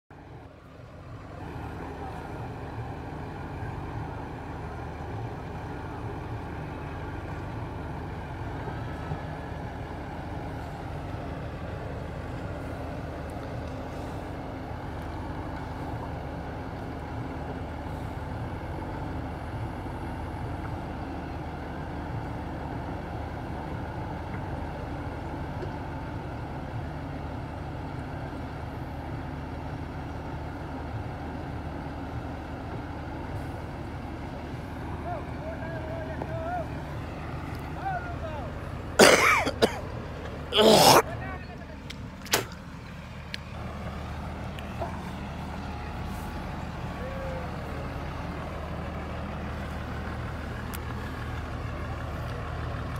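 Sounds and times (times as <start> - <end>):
diesel engines droning: 0.0 - 52.9.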